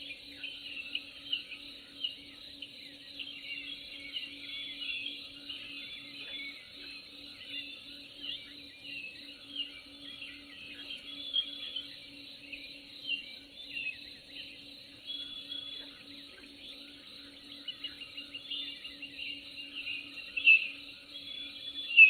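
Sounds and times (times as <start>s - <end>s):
birds chirping and trilling: 0.0s - 22.0s.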